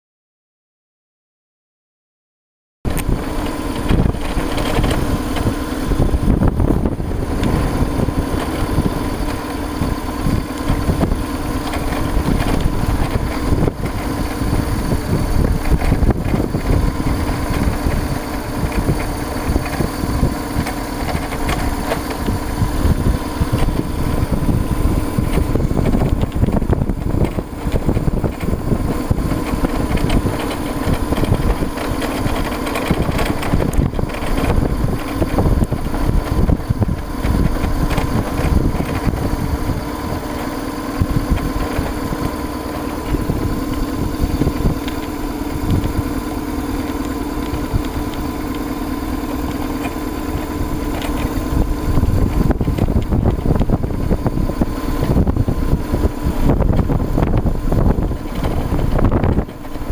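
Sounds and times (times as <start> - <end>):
motorcycle engine drone: 2.9 - 59.9
wind buffeting microphone: 2.9 - 59.9.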